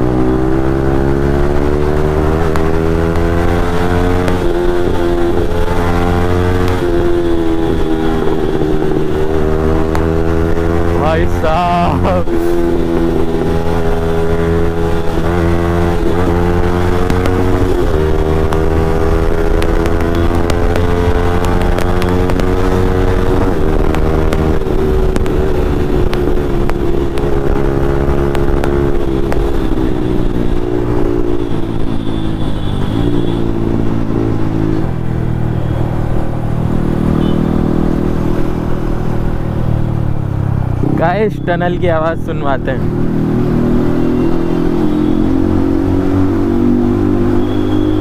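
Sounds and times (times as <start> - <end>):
motorcycle engine revving hard: 0.0 - 34.9, 40.7 - 48.0.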